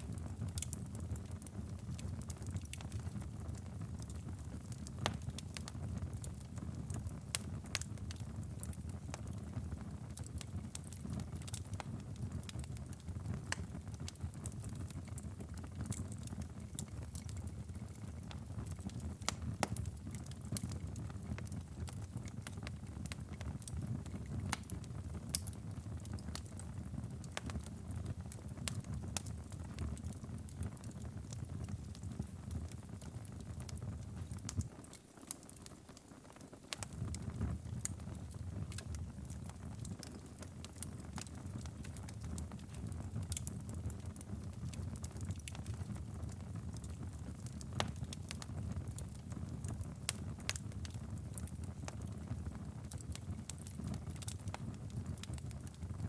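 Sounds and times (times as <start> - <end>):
fire pops and snaps: 0.0 - 56.0
wood fire crackling: 0.0 - 56.0.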